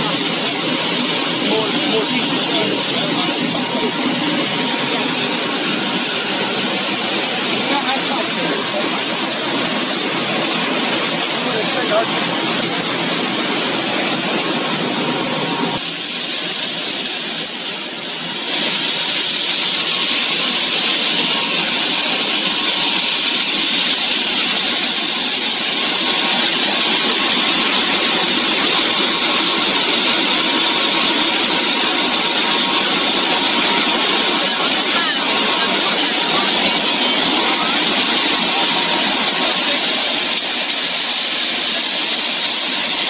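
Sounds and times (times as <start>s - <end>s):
machinery hiss: 0.0s - 43.0s
production line machinery running: 0.0s - 43.0s.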